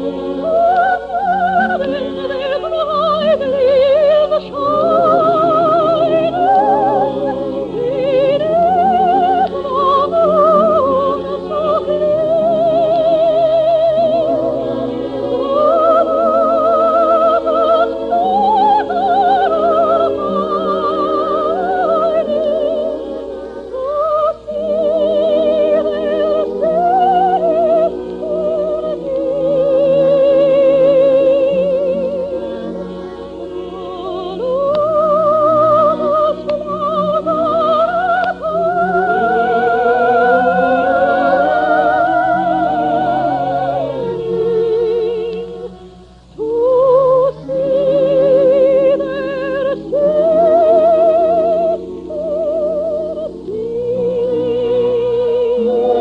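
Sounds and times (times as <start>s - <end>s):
operatic soprano singing: 0.0s - 56.0s
orchestral accompaniment: 0.0s - 56.0s.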